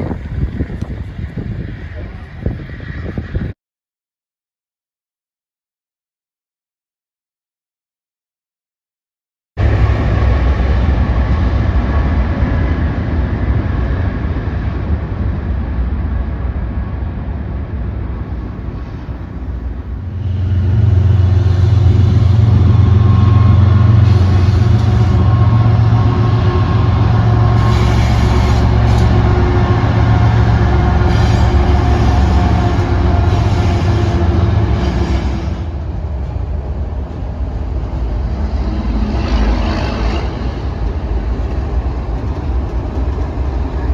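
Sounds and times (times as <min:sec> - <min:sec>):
freight cars rolling on rails: 0:00.0 - 0:03.5, 0:09.6 - 0:43.9
diesel locomotive engines: 0:00.0 - 0:03.6, 0:09.6 - 0:43.9.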